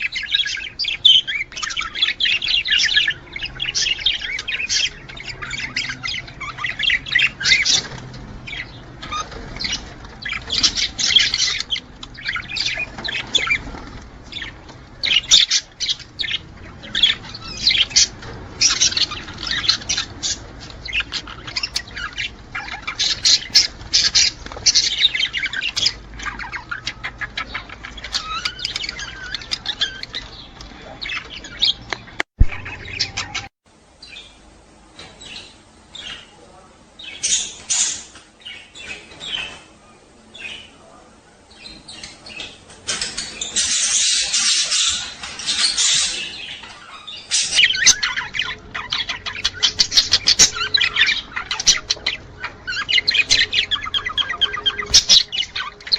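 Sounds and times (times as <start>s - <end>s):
budgerigars chattering: 0.0s - 34.4s, 35.1s - 55.9s.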